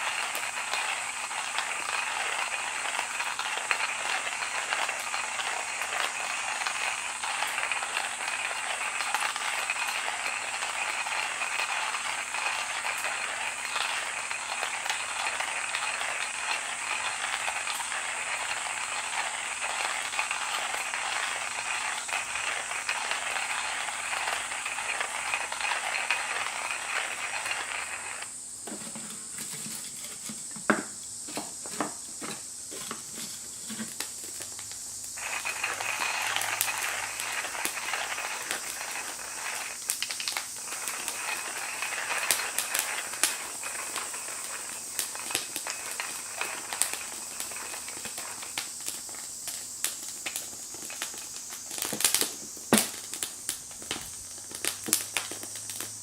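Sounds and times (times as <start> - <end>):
crackling hiss with pops: 0.0 - 56.0.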